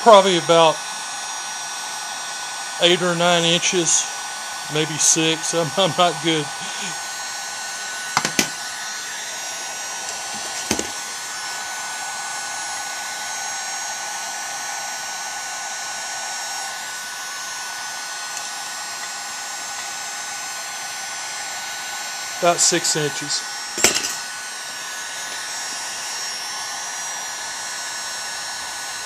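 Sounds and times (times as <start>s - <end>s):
heat gun blowing: 0.0s - 29.0s.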